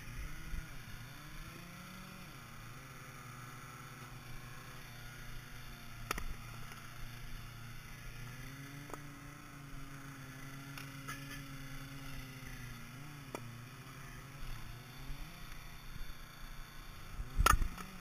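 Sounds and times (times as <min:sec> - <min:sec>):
log splitter engine running: 0:00.0 - 0:18.0.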